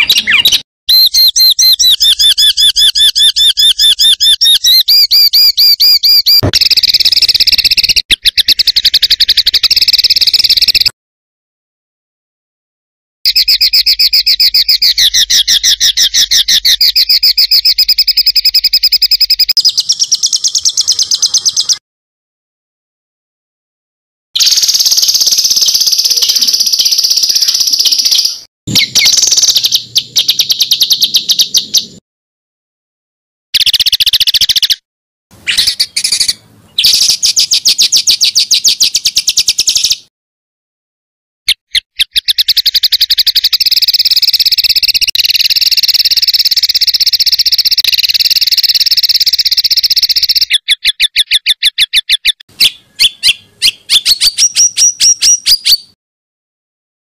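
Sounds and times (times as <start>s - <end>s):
songbird singing rapid notes: 0.0s - 10.9s, 13.3s - 21.8s, 24.4s - 32.0s, 33.6s - 34.8s, 35.4s - 40.1s, 41.5s - 56.0s.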